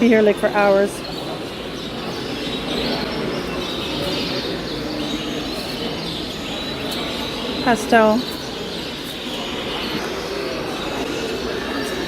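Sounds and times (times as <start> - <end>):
background hubbub: 0.0 - 12.0
canaries chirping: 0.0 - 12.0.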